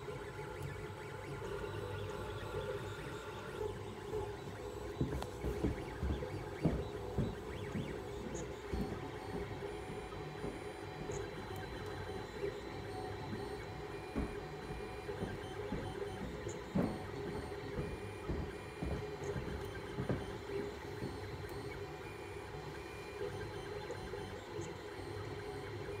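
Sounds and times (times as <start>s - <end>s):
stepper motors humming and whining: 0.0s - 26.0s.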